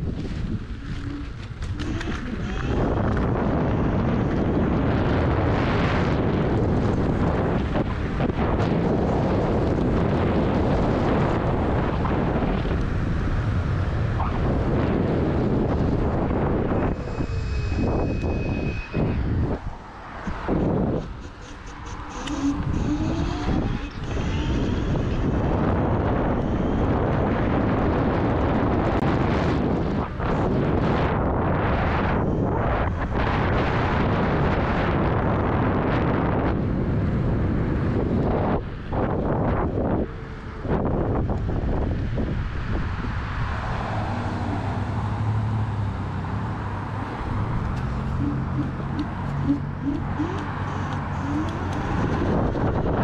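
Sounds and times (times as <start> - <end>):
wind rushing over microphone: 0.0 - 53.0
car engines and tyres passing: 2.8 - 53.0.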